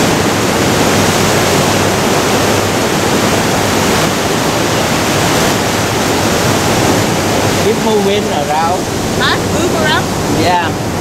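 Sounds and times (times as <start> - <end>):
surf breaking on rocky beach: 0.0 - 11.0.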